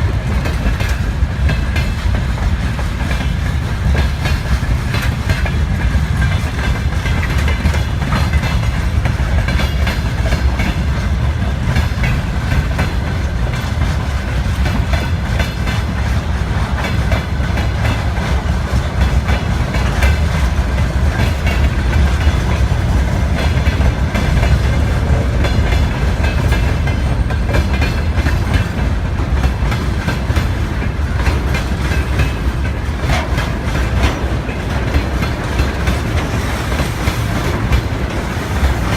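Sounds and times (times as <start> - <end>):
freight train rumbling: 0.0 - 38.9
wheels clicking over rail joints: 0.0 - 38.9.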